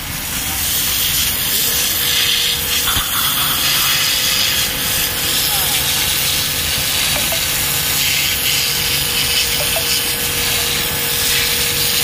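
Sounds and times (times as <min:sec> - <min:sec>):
washer motor whine: 0:00.0 - 0:12.0
water jet hissing: 0:00.0 - 0:12.0.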